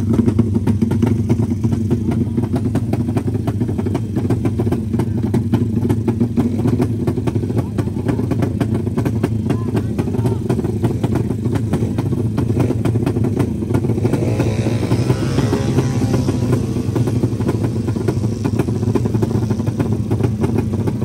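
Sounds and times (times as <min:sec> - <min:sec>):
motorcycle engines running loud: 0:00.0 - 0:21.0.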